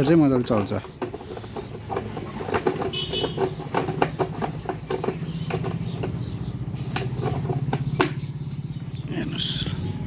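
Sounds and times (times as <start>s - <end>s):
clicks and knocks from handling: 0.0s - 8.6s.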